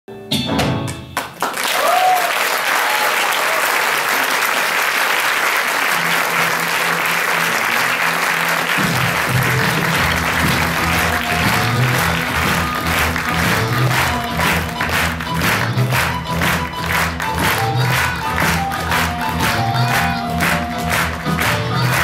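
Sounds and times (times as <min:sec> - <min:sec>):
audience applauding: 0:01.2 - 0:22.0.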